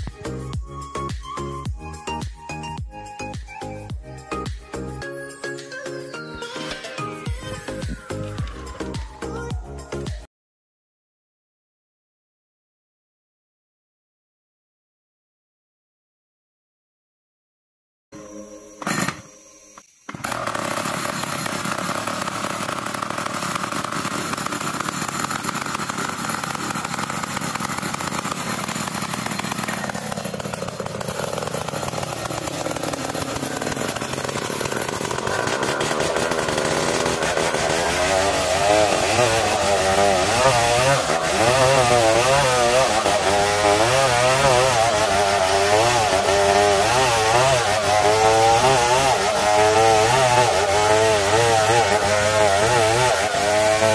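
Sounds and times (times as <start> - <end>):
chainsaw cutting wood: 0.0 - 5.5, 6.4 - 10.3, 18.2 - 53.9.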